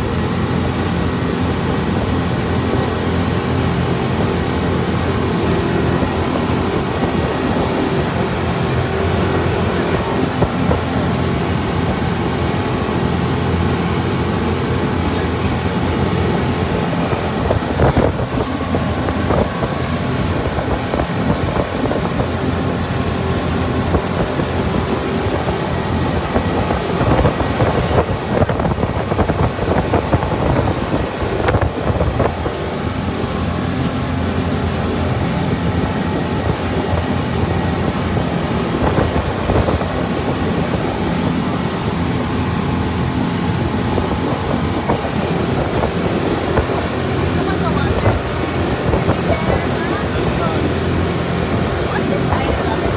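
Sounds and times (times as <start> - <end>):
motorboat engine running: 0.0 - 52.9
water rushing past hull: 0.0 - 52.9
wind buffeting microphone: 0.0 - 52.9.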